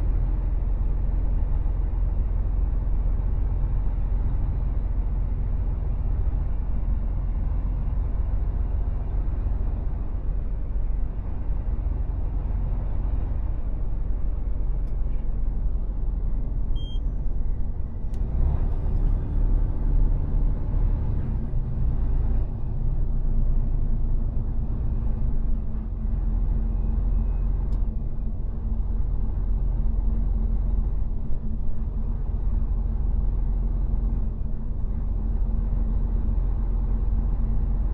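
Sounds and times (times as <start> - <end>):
diesel truck engine drone: 0.0 - 37.9
road rumble: 0.0 - 37.9.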